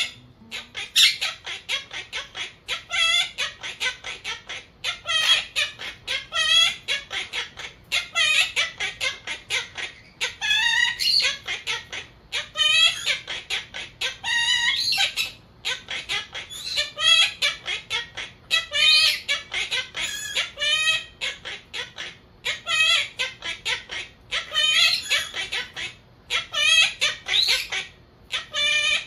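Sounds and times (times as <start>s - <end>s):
parakeet chattering: 0.0s - 29.0s.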